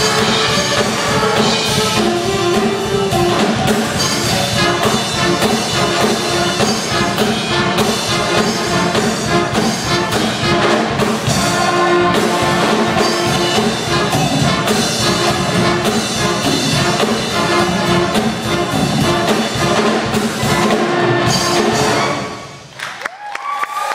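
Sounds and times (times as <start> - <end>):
jazz band playing: 0.0 - 22.7.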